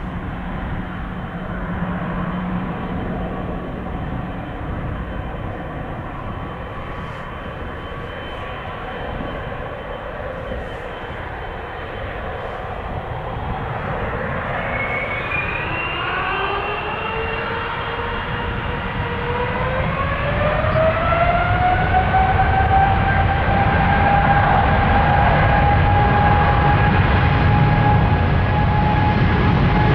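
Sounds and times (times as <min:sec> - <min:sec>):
jet engines spooling up: 0:00.0 - 0:29.9
rising engine whine: 0:00.0 - 0:29.9.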